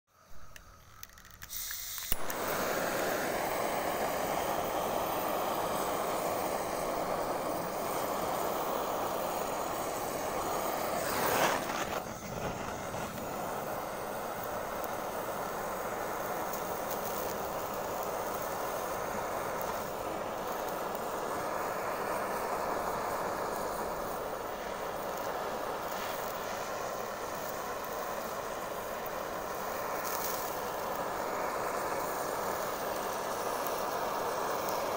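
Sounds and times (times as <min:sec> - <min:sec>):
gas torch flame hissing: 0:00.1 - 0:34.9
torch ignition click: 0:00.2 - 0:34.9.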